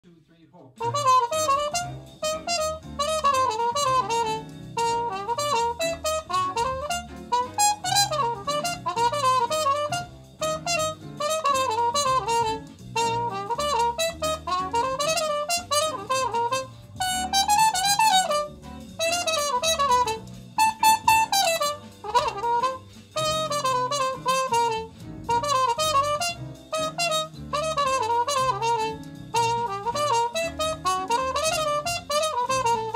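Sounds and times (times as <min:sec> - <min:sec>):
muted trumpet melody: 0:00.8 - 0:32.9.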